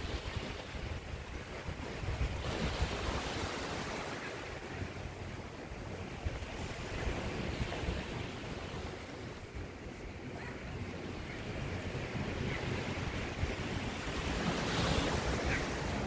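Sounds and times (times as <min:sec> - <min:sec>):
sea surf on a beach: 0:00.0 - 0:16.0
wind rumbling on microphone: 0:00.0 - 0:16.0.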